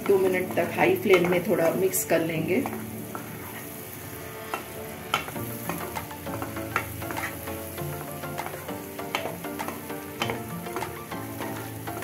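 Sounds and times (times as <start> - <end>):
spatula scraping and tapping pan: 0.0 - 3.8, 4.4 - 12.0
masala sizzling: 0.0 - 12.0.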